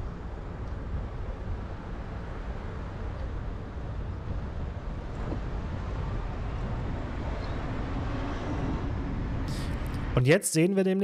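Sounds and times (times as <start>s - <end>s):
wind rumble on microphone: 0.0s - 10.2s
road traffic: 0.0s - 10.4s.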